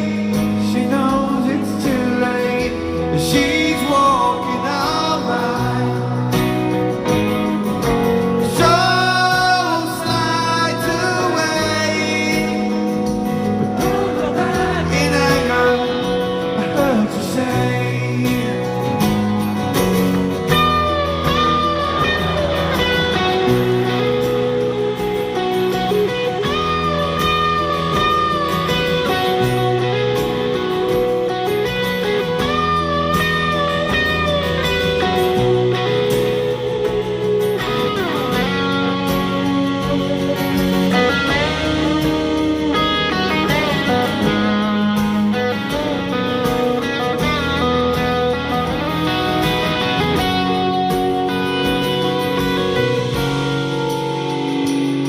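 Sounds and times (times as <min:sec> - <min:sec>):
lead electric guitar solo: 0:00.0 - 0:55.0
rock band playing: 0:00.0 - 0:55.0.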